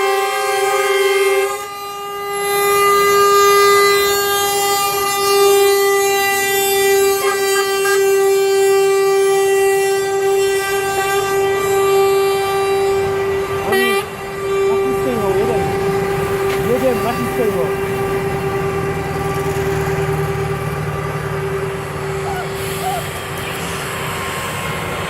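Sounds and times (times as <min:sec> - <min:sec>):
truck air horn: 0:00.0 - 0:25.0.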